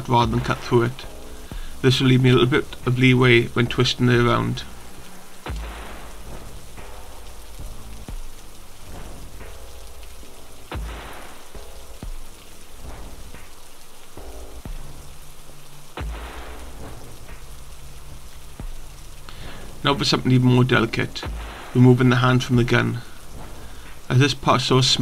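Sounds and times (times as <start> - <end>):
rain-like noise: 0.0 - 25.0
low hum: 3.6 - 24.2.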